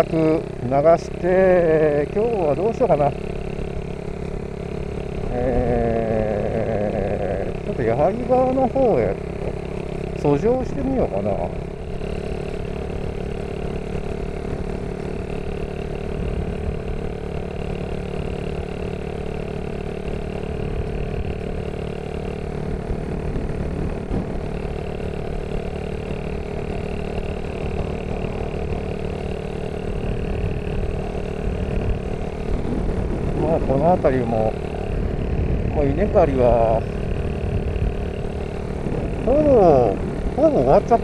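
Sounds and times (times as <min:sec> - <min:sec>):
motorcycle engine cruising: 0:00.0 - 0:41.0.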